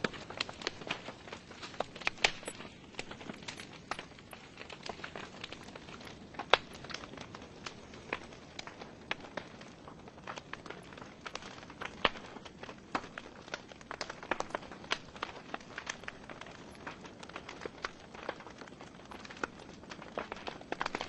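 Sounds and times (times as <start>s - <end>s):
fire hissing: 0.0s - 21.0s
wood fire crackling and popping: 0.0s - 21.0s.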